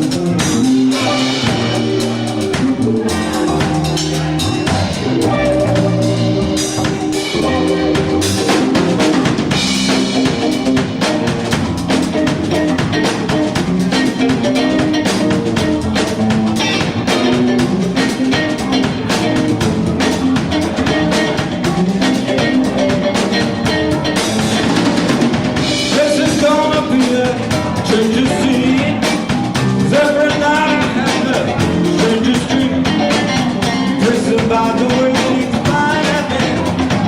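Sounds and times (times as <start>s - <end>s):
bass drum and snare beat: 0.0s - 37.0s
live band playing upbeat song: 0.0s - 37.0s.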